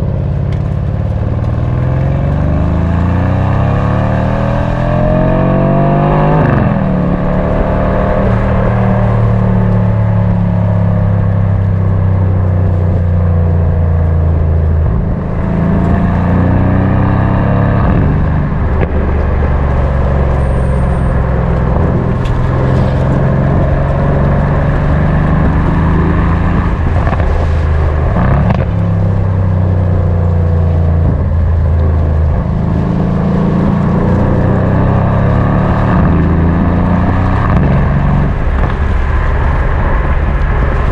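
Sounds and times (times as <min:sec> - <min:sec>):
car engine revving through gears: 0:01.4 - 0:11.4, 0:14.7 - 0:29.0, 0:29.9 - 0:38.8.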